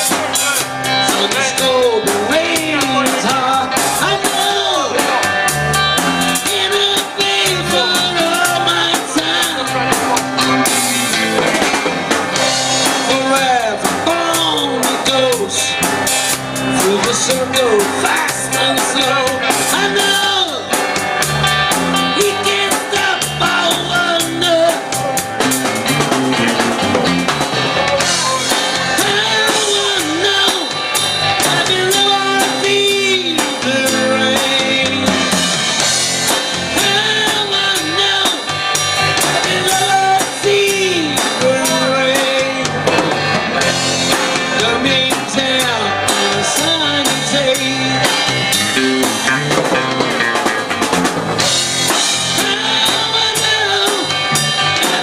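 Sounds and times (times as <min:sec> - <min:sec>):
person singing: 0:00.0 - 0:10.8, 0:12.3 - 0:27.0, 0:27.8 - 0:50.7, 0:51.8 - 0:55.0
rock band playing: 0:00.0 - 0:55.0.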